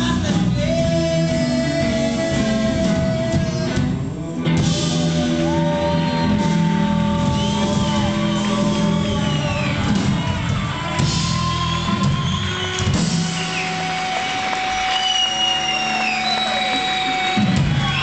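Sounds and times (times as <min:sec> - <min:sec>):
electric guitars: 0:00.0 - 0:18.0
live rock band playing: 0:00.0 - 0:18.0.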